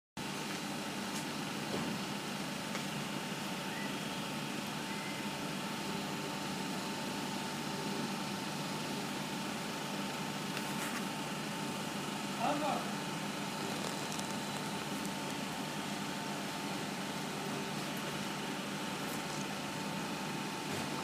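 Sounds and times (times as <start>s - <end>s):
faint steady whine: 0.3s - 21.0s.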